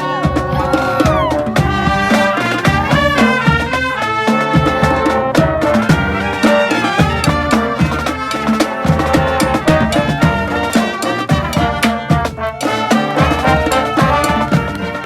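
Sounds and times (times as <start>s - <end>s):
brass horns playing melody: 0.0s - 15.0s
busy drum beat: 0.0s - 15.0s.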